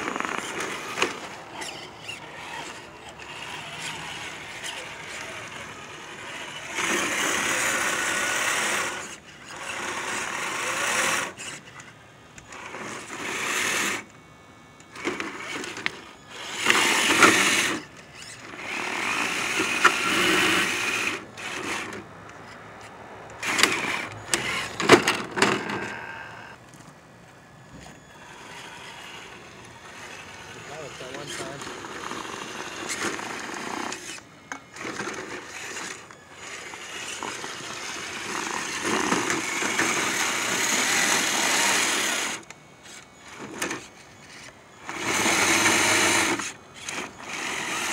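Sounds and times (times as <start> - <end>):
rc car motor whirring: 0.0 - 47.9.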